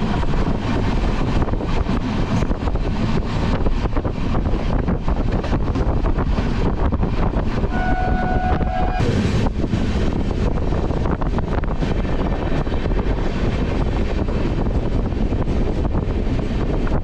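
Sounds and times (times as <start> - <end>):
train wheels on rails: 0.0 - 17.0
wind buffeting microphone: 0.0 - 17.0.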